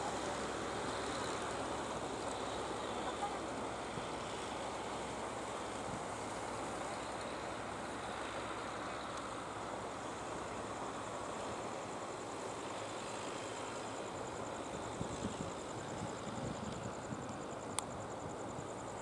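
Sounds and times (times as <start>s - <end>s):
fishing boat engines: 0.0s - 19.0s.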